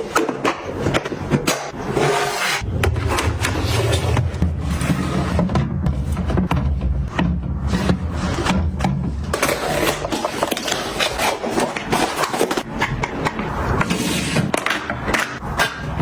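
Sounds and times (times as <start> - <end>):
household items clicking and knocking: 0.0 - 1.8, 2.6 - 16.0.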